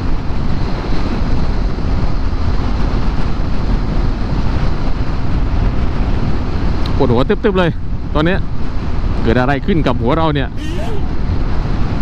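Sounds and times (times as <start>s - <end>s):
road noise: 0.0s - 12.0s
wind rush on microphone: 0.0s - 12.0s.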